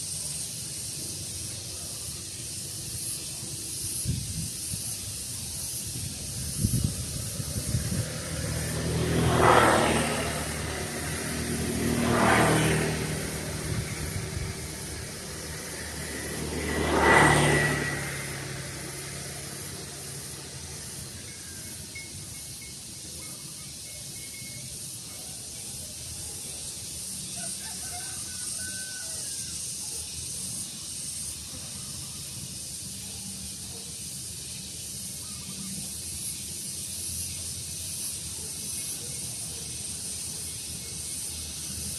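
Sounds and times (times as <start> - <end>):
open-air background hiss: 0.0 - 41.9
vehicles passing: 0.0 - 41.9.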